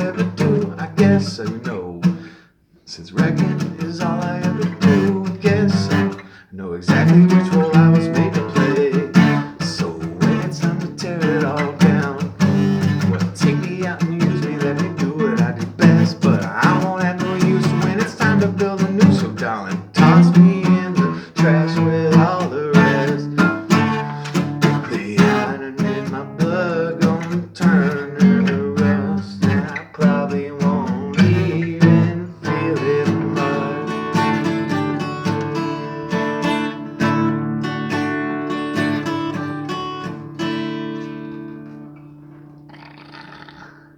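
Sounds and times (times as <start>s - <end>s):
acoustic guitar strumming: 0.0s - 2.4s, 3.1s - 43.6s.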